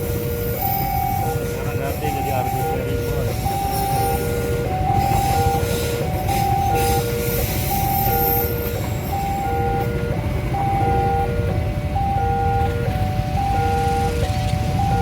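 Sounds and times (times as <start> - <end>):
train rumbling past: 0.0 - 15.0
two-tone warning alarm: 0.0 - 15.0.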